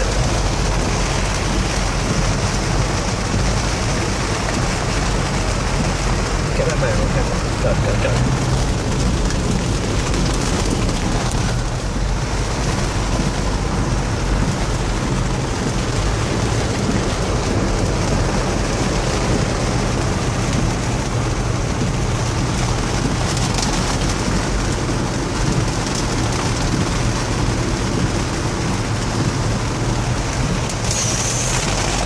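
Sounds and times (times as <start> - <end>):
car engine running: 0.0 - 32.0
water rushing: 0.0 - 32.0.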